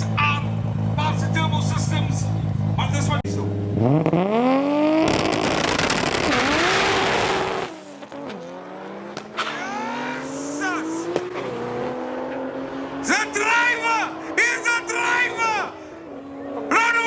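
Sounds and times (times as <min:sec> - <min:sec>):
car engines at full throttle: 0:00.0 - 0:17.0.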